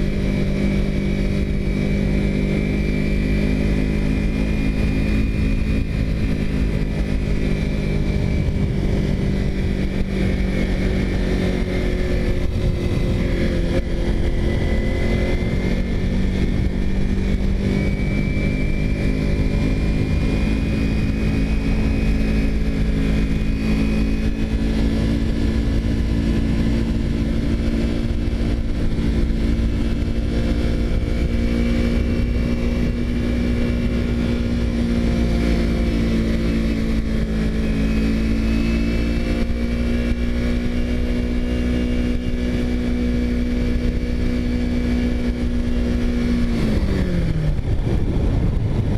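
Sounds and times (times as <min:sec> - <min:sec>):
motorcycle engine cruising: 0:00.0 - 0:48.9
wind rumble on microphone: 0:00.0 - 0:48.9.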